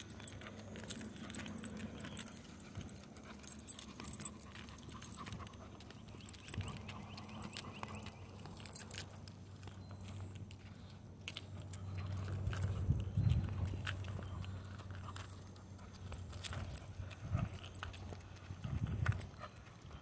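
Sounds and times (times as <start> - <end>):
small metal pieces jingling: 0.0 - 18.8
handling noise while walking: 0.0 - 20.0
low hum: 0.0 - 20.0.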